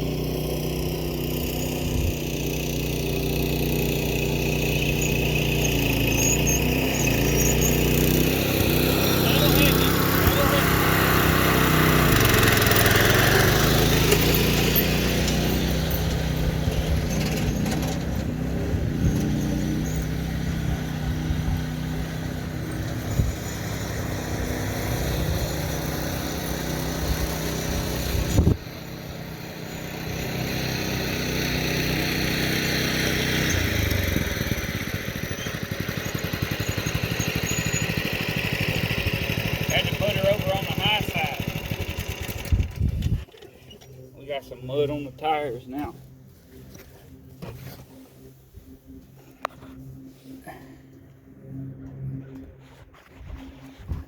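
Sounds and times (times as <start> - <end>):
small engine under load: 0.0 - 54.0.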